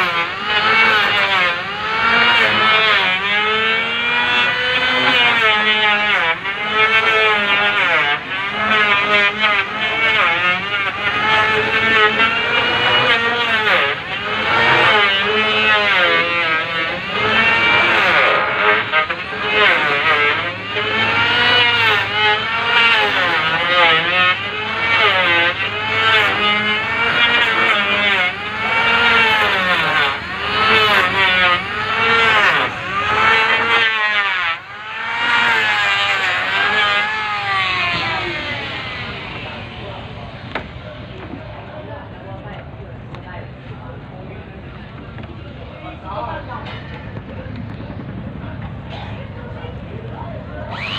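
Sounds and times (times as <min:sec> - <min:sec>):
electric planer shaving wood: 0:00.0 - 0:43.3, 0:49.6 - 0:50.9.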